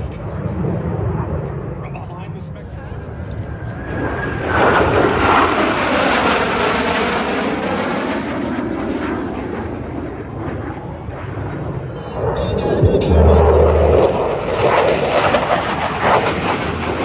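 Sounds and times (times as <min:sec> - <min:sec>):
jet aircraft roaring past: 0:00.0 - 0:17.0.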